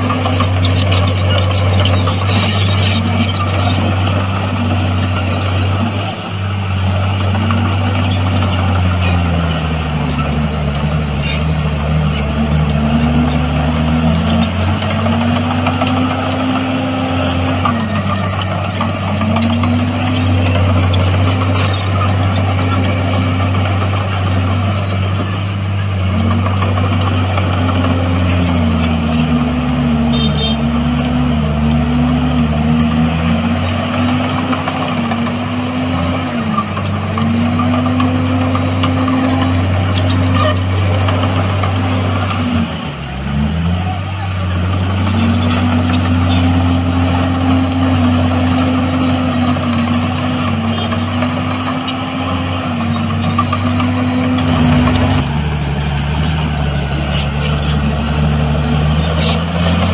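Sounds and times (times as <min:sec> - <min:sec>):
heavy machine diesel engine: 0:00.0 - 0:59.9.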